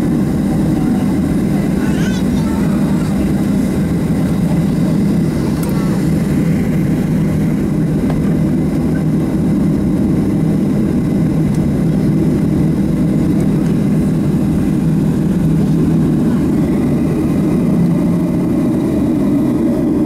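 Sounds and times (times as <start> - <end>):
jet engines droning in cabin: 0.0 - 20.0.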